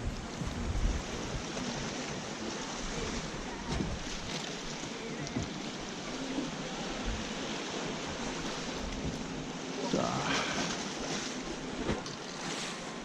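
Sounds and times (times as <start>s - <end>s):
sea surf washing on shore: 0.0s - 13.0s.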